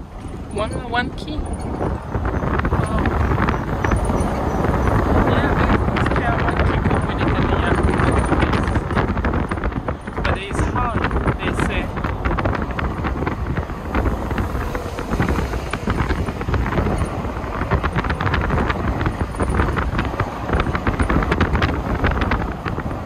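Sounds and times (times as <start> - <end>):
car road and engine noise: 0.0 - 23.0
wind buffeting microphone: 0.0 - 23.0.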